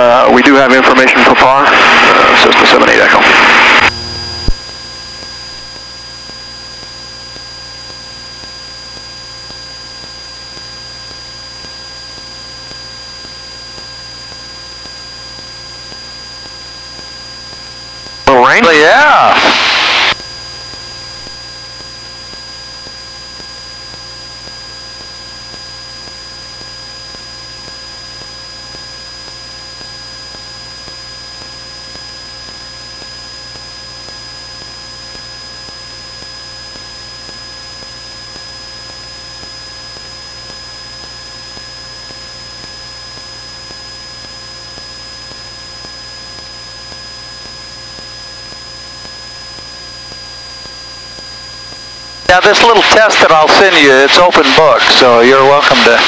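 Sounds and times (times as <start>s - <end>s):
aircraft cockpit noise: 0.0s - 11.6s, 12.2s - 27.4s, 33.0s - 56.0s.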